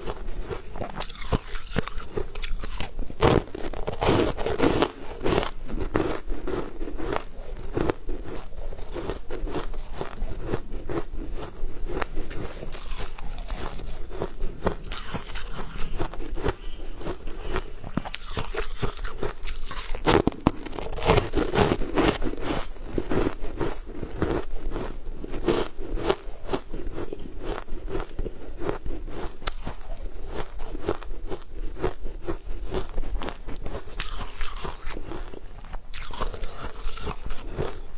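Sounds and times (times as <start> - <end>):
crunching and chewing food: 0.0 - 37.9.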